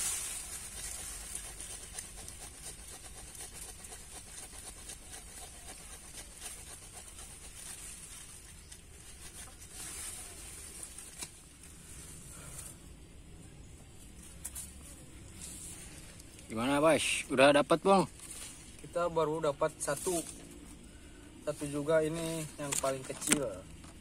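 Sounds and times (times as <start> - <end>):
machete scraping soil and roots: 0.0 - 12.8, 15.4 - 20.8, 21.4 - 23.6.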